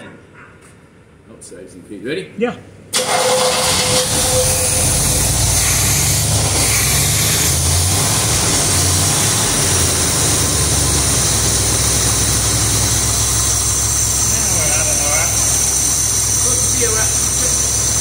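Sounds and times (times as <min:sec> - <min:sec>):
car engine running: 0:03.0 - 0:18.0.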